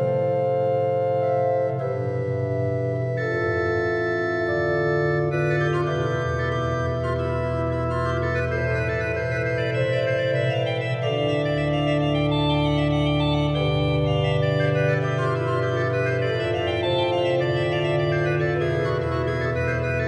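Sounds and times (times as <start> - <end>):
chamber organ playing: 0.0 - 20.0.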